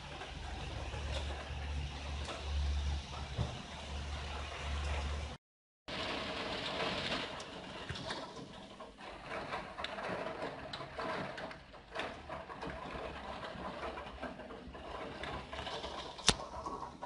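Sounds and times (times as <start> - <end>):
rain pattering on a window: 0.0 - 17.0.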